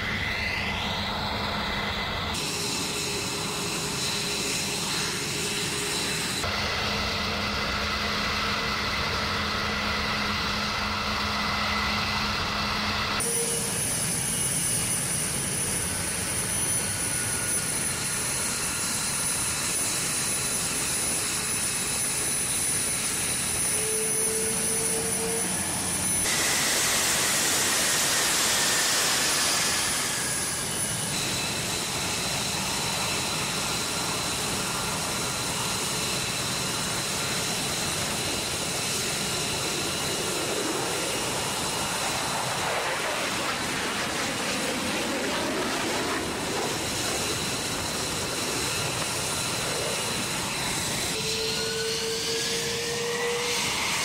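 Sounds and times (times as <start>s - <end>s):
high-pitched engine whine: 0.0s - 54.0s
jet engines rushing: 0.0s - 54.0s.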